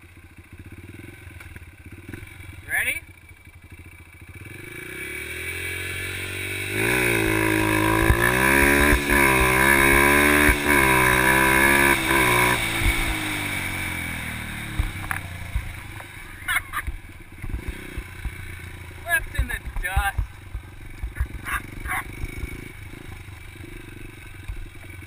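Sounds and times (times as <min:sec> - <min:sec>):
dirt bike engine accelerating: 0:00.0 - 0:25.0.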